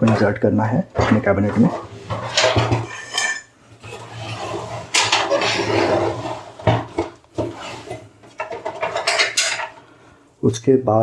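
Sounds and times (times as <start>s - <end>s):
metal sliding and scraping: 1.0s - 9.8s.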